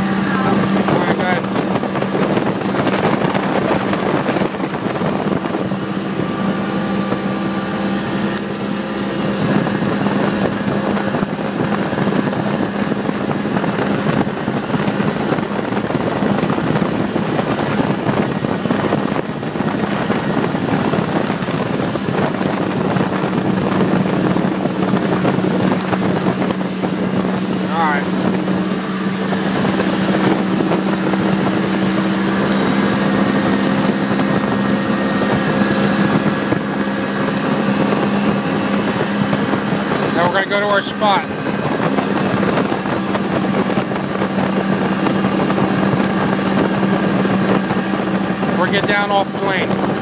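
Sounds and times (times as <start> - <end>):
motorboat engine droning: 0.0 - 50.0
wind buffeting microphone: 0.0 - 50.0.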